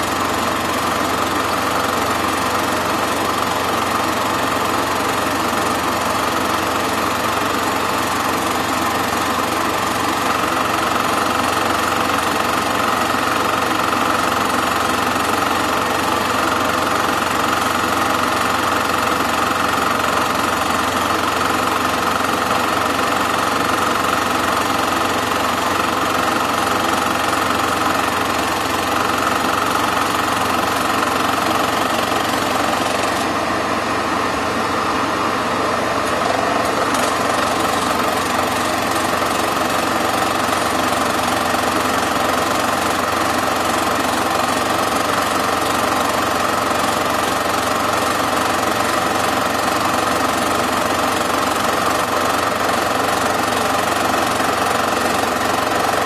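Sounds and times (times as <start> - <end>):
film projector whirring and rattling: 0.0 - 56.0.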